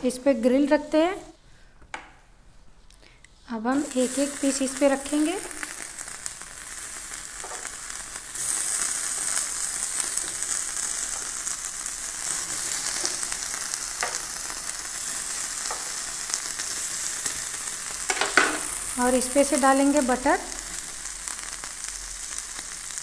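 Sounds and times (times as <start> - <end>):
chicken sizzling on a grill: 3.7 - 23.0.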